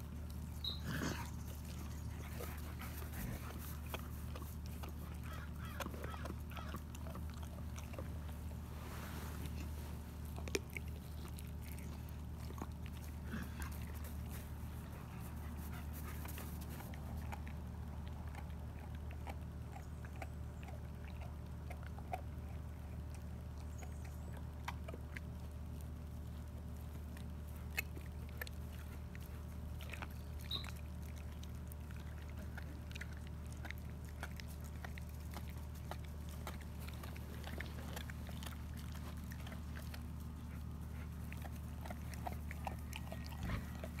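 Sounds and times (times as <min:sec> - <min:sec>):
dog crunching bones: 0:00.0 - 0:08.7, 0:09.4 - 0:44.0.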